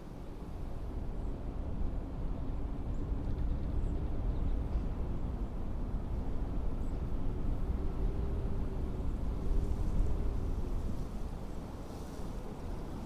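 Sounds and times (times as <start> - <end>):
blizzard wind rumbling: 0.0 - 13.0
faint howling wind: 0.0 - 13.0.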